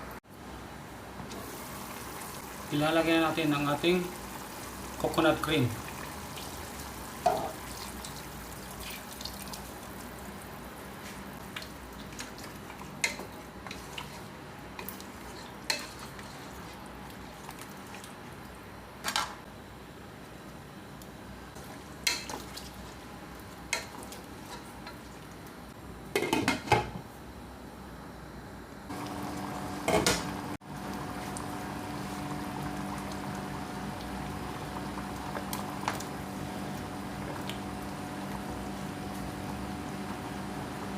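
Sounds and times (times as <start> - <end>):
curry sizzling in a pot: 1.3 - 18.7, 21.5 - 25.6, 28.9 - 40.9.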